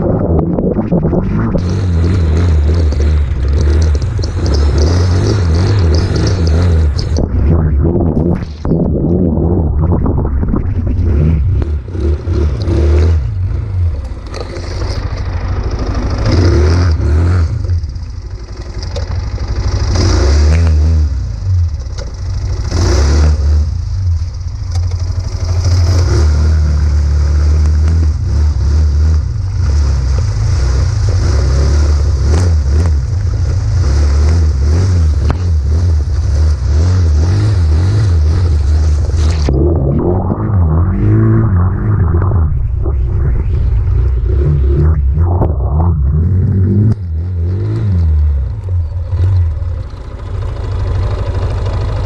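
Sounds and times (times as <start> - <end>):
atv engine revving: 0.0 - 10.2, 10.8 - 52.0.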